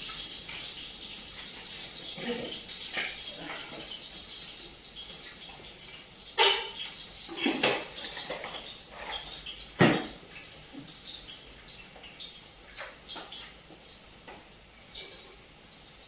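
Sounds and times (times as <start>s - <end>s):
utensils clinking on pots: 0.0s - 13.5s, 14.2s - 15.5s.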